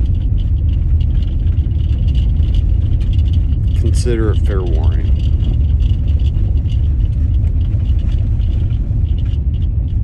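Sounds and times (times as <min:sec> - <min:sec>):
car road rumble: 0:00.0 - 0:10.0.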